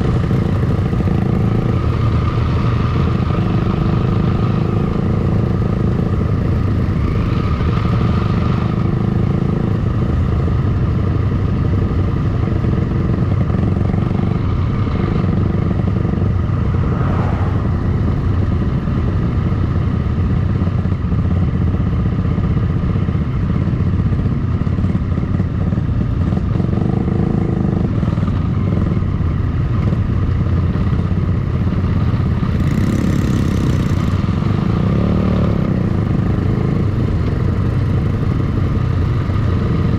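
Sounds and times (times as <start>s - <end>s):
motorcycle engines running: 0.0s - 39.9s
wind and road noise: 0.0s - 39.9s.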